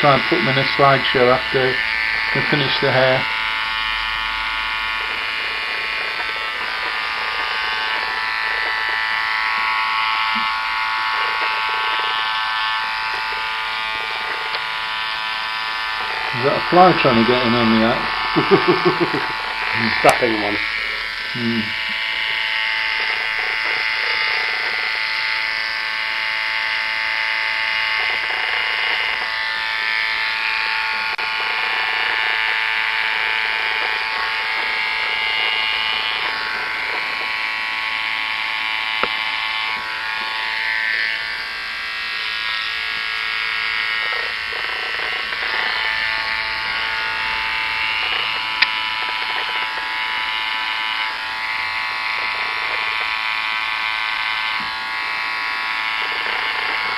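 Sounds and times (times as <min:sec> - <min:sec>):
electric hair clippers buzzing: 0:00.0 - 0:56.9.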